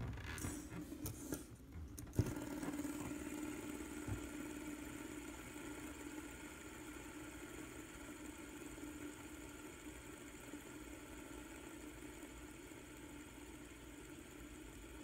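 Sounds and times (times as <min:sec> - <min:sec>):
fidget spinner whirring hum: 0:00.0 - 0:15.0.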